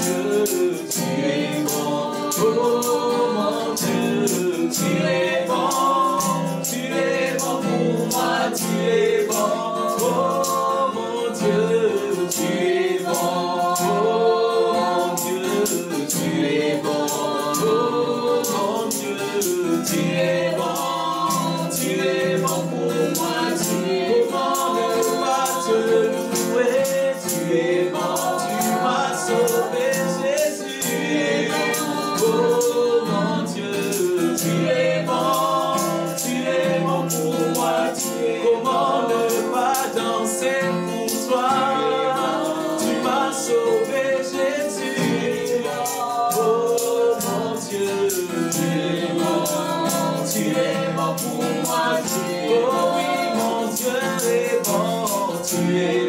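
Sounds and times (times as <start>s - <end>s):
man and woman singing: 0.0s - 56.0s
strummed acoustic guitar: 0.0s - 56.0s
tambourine: 0.0s - 56.0s.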